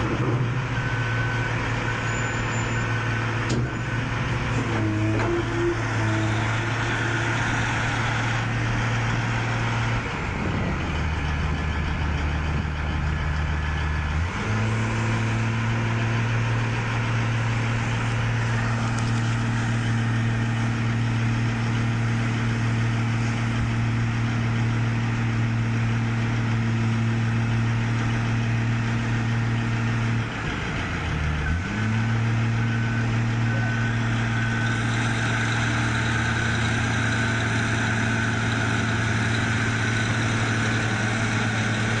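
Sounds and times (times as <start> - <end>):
heavy equipment engine running: 0.0 - 42.0.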